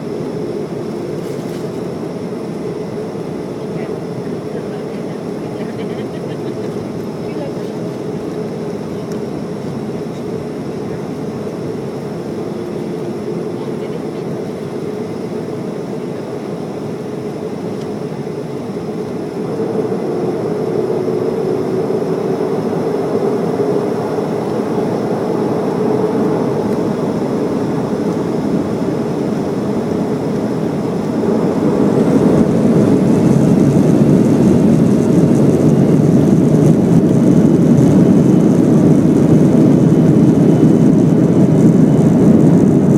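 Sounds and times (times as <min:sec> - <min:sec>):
faint high engine whine: 0:00.0 - 0:42.9
jet engines roaring: 0:00.0 - 0:42.9.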